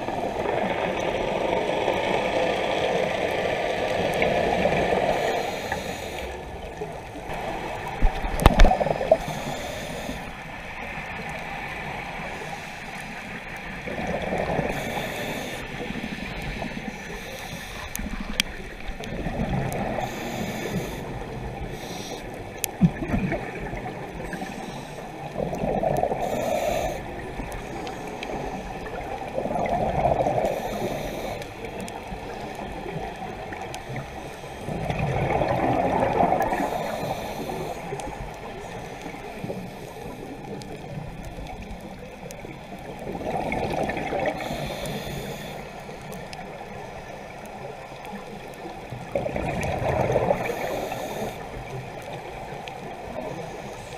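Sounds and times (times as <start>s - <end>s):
exhaled bubbles gurgling: 0.0s - 53.9s
steady underwater hiss: 0.0s - 53.9s.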